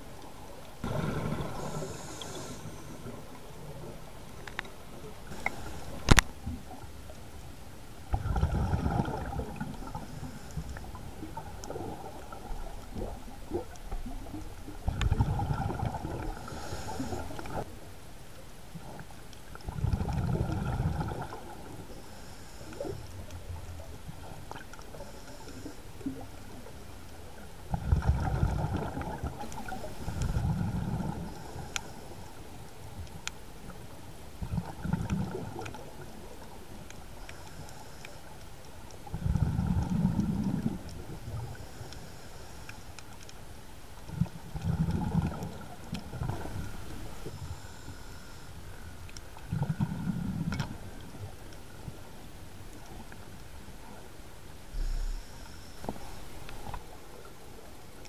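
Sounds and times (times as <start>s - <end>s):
water noise: 0.0s - 58.0s
underwater exhaled air bubbling: 0.8s - 7.2s, 8.0s - 17.7s, 18.8s - 38.4s, 39.0s - 42.7s, 44.0s - 52.0s.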